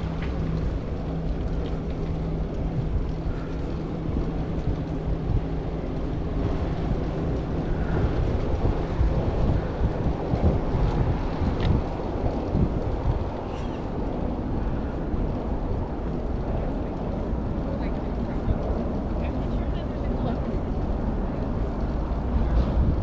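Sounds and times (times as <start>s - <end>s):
low hum: 0.0s - 23.0s
wind buffeting microphone: 0.0s - 23.0s.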